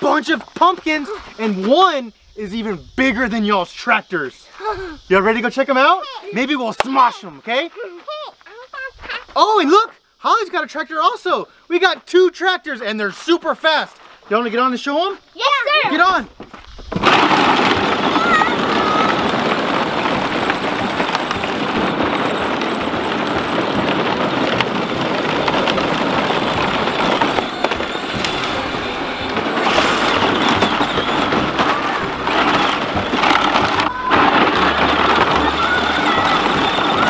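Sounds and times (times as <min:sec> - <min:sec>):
plastic wheels rolling over gravel: 0:00.0 - 0:09.9, 0:11.8 - 0:37.0.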